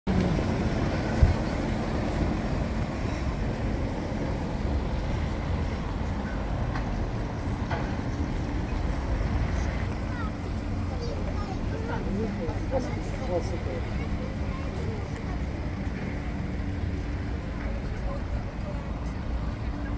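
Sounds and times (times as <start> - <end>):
truck engine and tyre rumble: 0.0 - 19.9.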